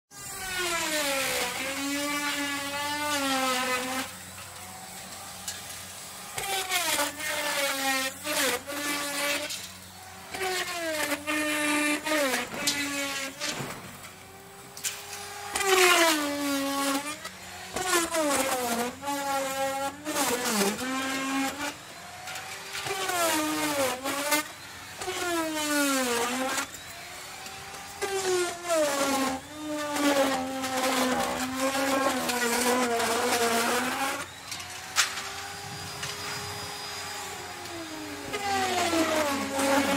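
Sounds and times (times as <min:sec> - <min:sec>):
wood router motor whining: 0:00.1 - 0:39.9
rasp of wood being cut: 0:00.2 - 0:13.9, 0:14.8 - 0:39.9.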